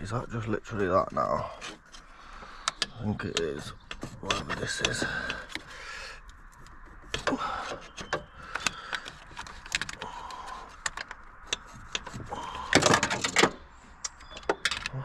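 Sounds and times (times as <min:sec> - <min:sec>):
clicks and knocks of metal parts: 0:01.6 - 0:15.0.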